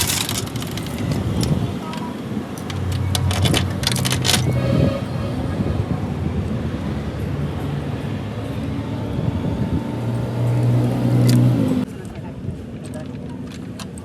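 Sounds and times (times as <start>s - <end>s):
diesel truck engine droning: 0.0s - 11.9s.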